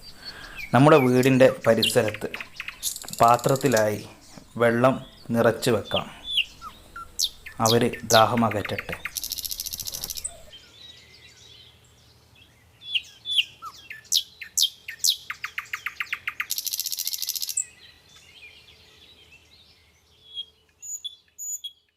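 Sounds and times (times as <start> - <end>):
birds singing and calling: 0.0 - 21.9.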